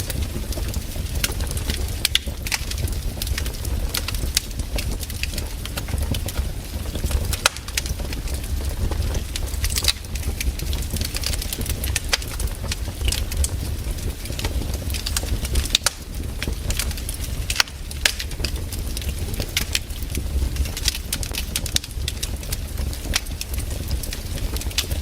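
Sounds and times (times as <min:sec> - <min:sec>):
campfire crackling and popping: 0:00.0 - 0:25.0
fire low rumble: 0:00.0 - 0:25.0.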